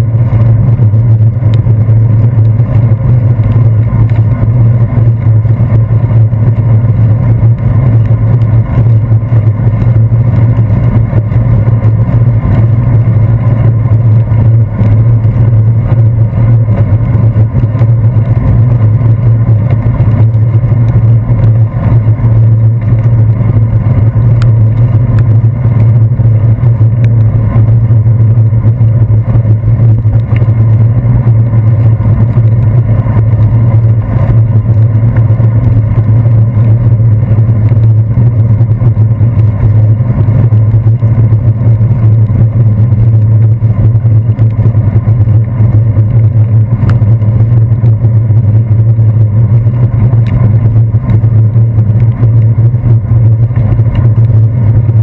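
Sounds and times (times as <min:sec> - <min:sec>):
bicycle rumbling on wet pavement: 0:00.0 - 0:55.0
wind noise: 0:00.0 - 0:55.0.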